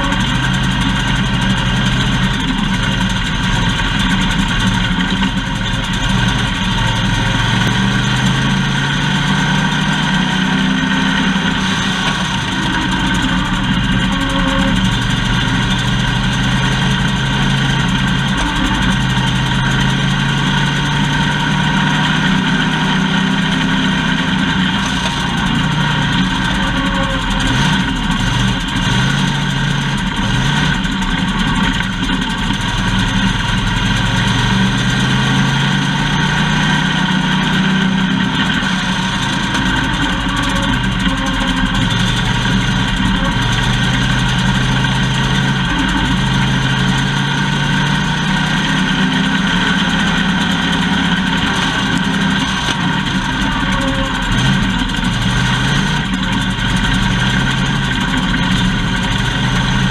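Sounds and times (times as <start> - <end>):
race car engine running: 0.0 - 59.9.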